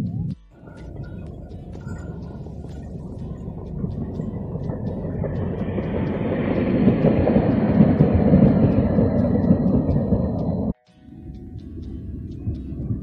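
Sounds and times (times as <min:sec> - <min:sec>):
high-pitched tram whine: 0:00.0 - 0:13.0
tram wheels rumbling on rails: 0:00.0 - 0:13.0.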